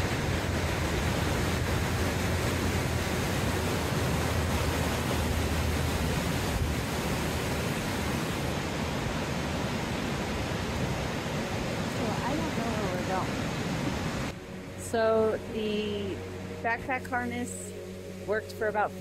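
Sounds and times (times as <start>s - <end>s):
wind buffeting microphone: 0.0s - 17.6s
rushing water: 0.0s - 19.0s.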